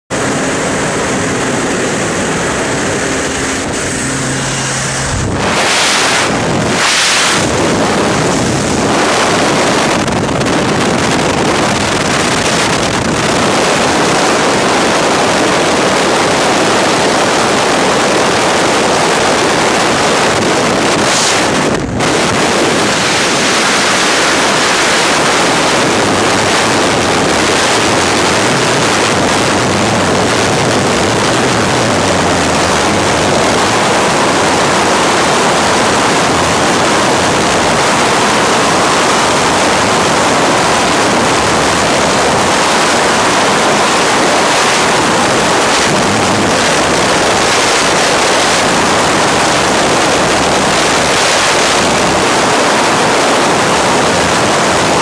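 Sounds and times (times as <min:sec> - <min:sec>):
propeller aircraft engine droning: 0:00.0 - 0:55.0
wind rushing on microphone: 0:00.1 - 0:55.0.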